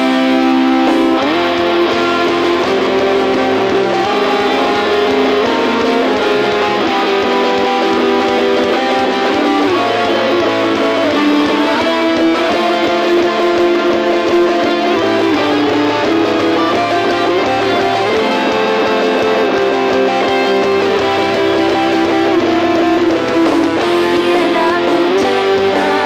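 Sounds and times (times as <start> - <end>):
electric guitar strumming chords: 0.0 - 26.0.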